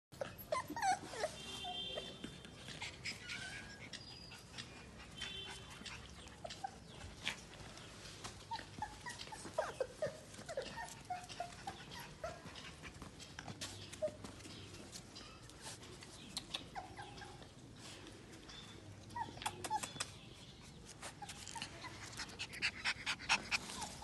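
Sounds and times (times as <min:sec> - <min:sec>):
puppies whimpering and squeaking: 0:00.2 - 0:24.0.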